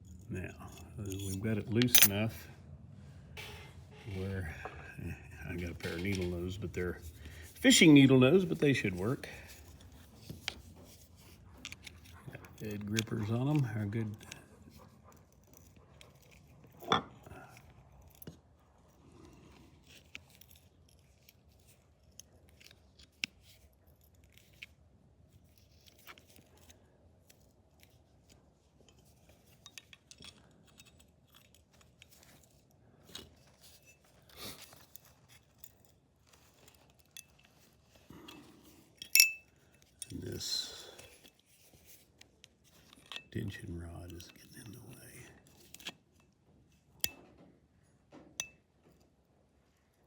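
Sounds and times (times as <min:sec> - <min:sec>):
pliers clicking and scraping metal: 0:00.0 - 0:02.4, 0:05.6 - 0:18.4, 0:19.5 - 0:24.8, 0:25.4 - 0:47.4.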